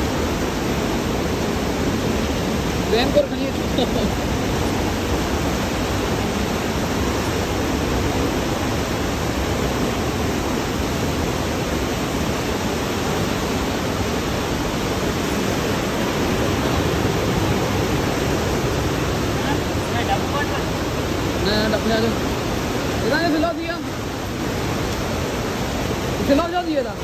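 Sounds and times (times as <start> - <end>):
whitewater rushing through gorge: 0.0 - 27.0.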